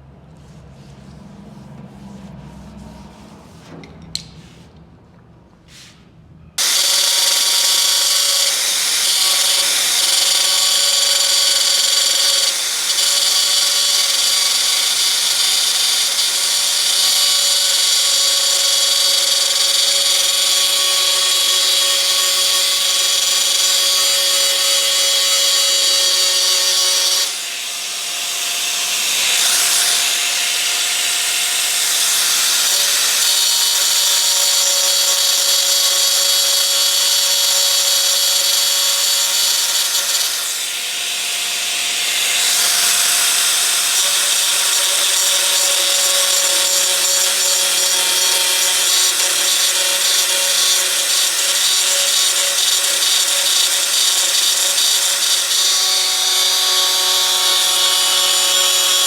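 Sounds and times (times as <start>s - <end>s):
grinder on sheet metal: 6.6s - 59.0s.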